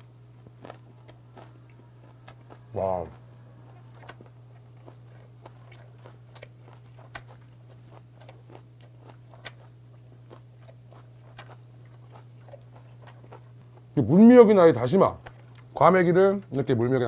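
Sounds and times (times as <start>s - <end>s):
man chewing: 0.0s - 14.0s, 15.2s - 15.8s
steady low hum: 0.0s - 17.0s.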